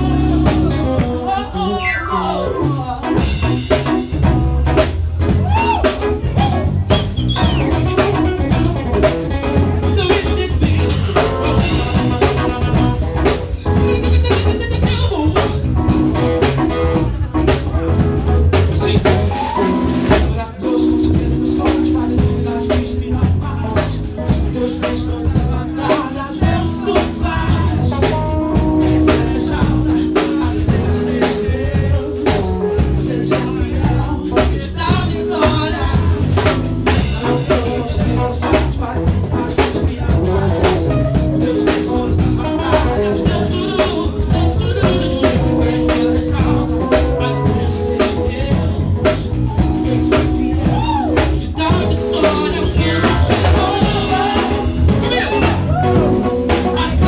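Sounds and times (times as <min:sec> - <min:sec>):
voice at microphone: 0:00.0 - 0:03.6, 0:05.4 - 0:57.0
live band playing: 0:00.0 - 0:57.0.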